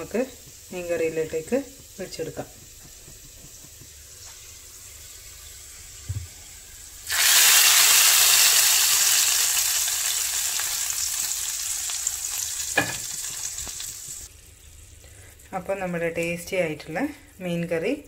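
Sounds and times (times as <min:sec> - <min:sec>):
hot oil hissing and sizzling: 0:00.0 - 0:14.6.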